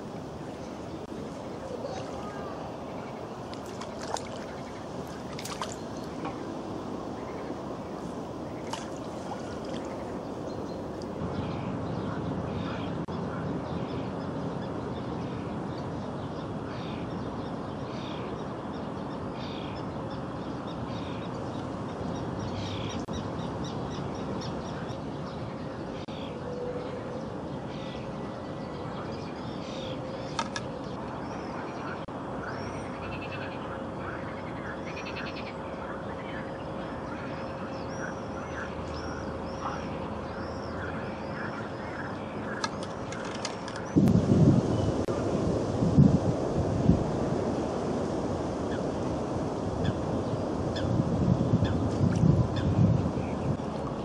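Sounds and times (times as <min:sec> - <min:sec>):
steady outdoor hiss: 0:00.0 - 0:54.0.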